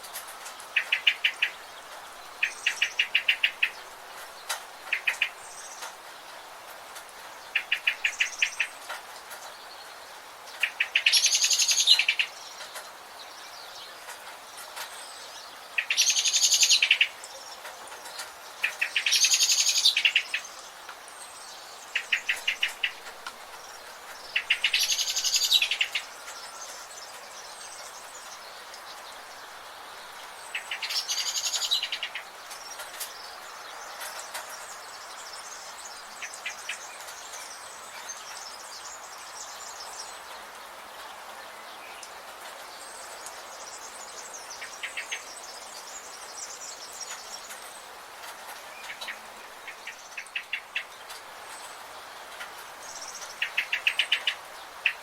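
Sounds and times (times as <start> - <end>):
background hiss: 0.0 - 55.0
birds trilling calls: 0.1 - 6.4, 7.2 - 9.5, 13.9 - 40.5, 42.9 - 55.0.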